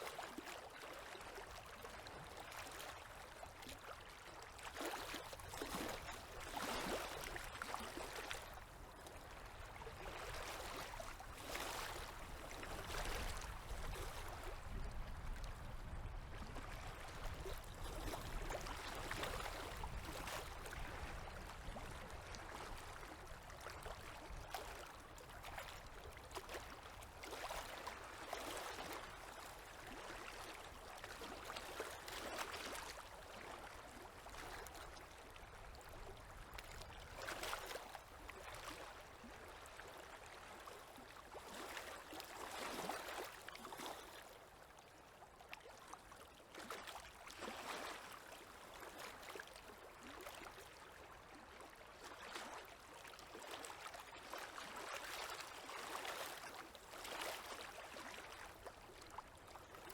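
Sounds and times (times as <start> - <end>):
river waves lapping at bank: 0.1 - 15.8, 16.4 - 44.9, 45.6 - 59.9.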